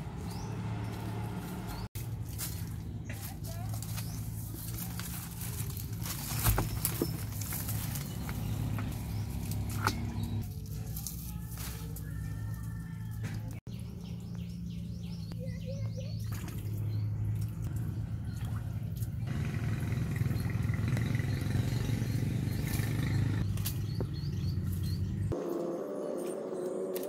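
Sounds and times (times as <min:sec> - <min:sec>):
birds chirping: 0:00.0 - 0:10.4, 0:13.6 - 0:27.0.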